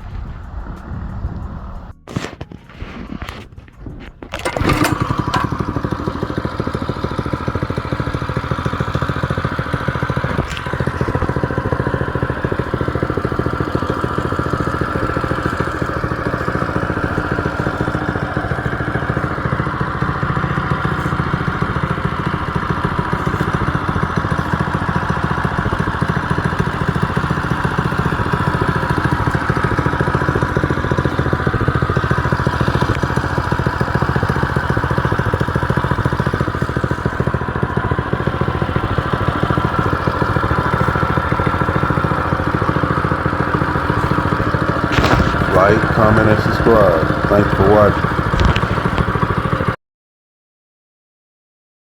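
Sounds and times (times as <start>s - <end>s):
small engine idling: 0.0s - 49.8s.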